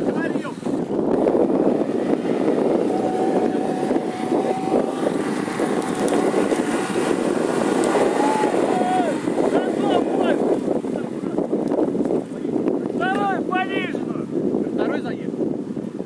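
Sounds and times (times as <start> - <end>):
suv engine under heavy load: 0.0 - 14.7.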